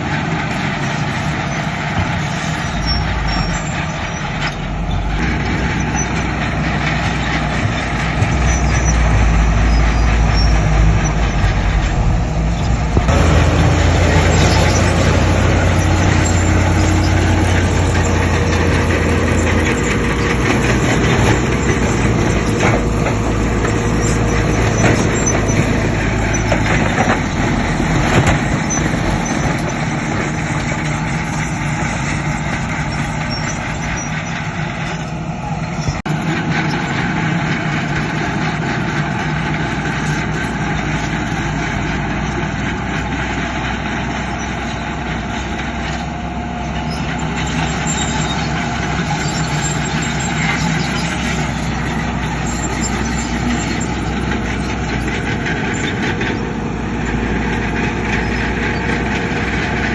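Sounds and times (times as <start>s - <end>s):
diesel earthmoving machinery running: 0.0s - 59.9s.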